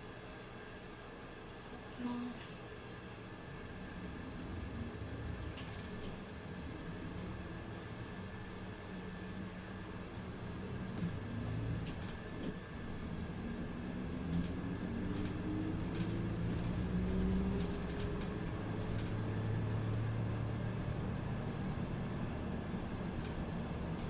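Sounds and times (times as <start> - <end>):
bus engine whine: 0.0 - 24.0.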